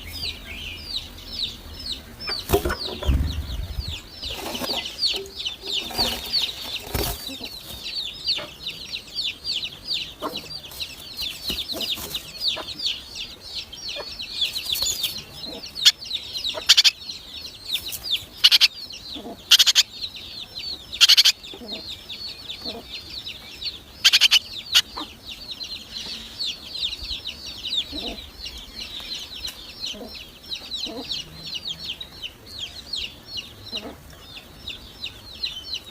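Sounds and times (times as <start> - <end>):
nestlings begging chirps: 0.0 - 35.9.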